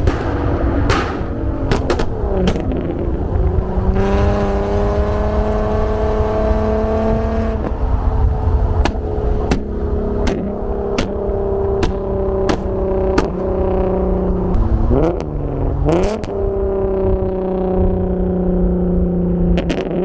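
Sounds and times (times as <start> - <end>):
exhaust pops: 0.0 - 16.4
car engine revving: 0.0 - 20.0.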